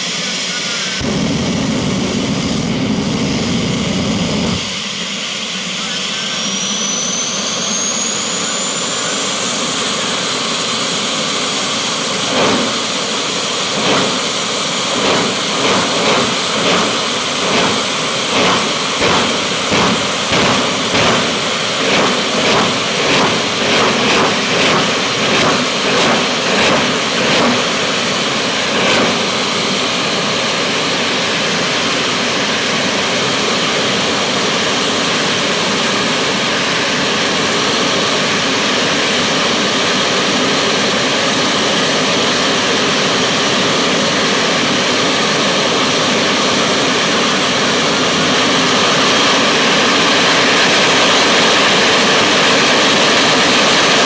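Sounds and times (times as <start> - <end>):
turbine engine roaring and whining: 0.0 - 54.0.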